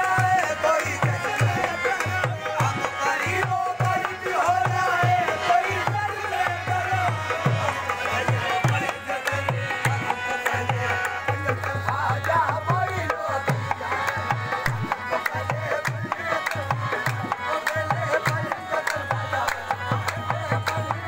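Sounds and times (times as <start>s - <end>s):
person singing ornamented lines: 0.0s - 21.0s.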